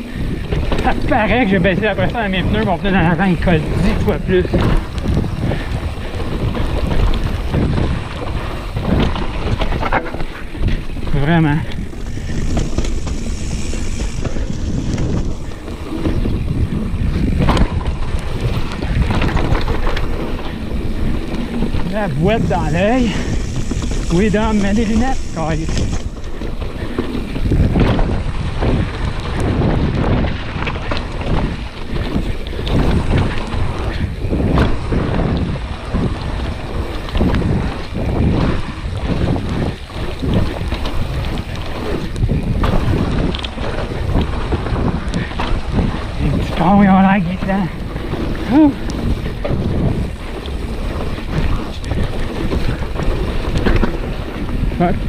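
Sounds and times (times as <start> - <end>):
bike tyres rumbling and rattling: 0.0 - 55.0
wind noise on microphone: 0.0 - 55.0.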